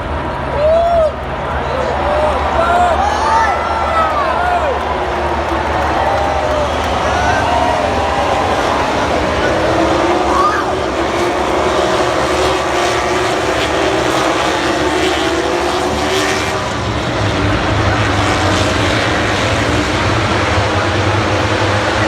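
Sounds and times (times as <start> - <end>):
racing motorcycle engines whining: 0.0 - 22.0.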